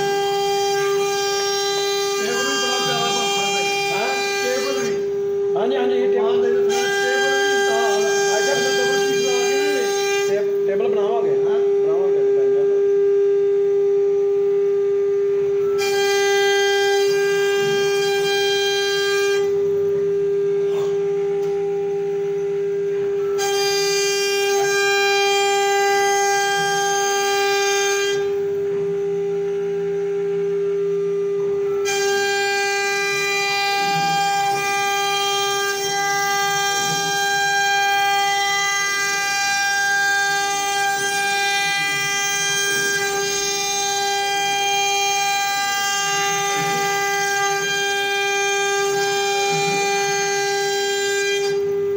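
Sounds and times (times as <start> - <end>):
wood router spindle whine: 0.0 - 51.9.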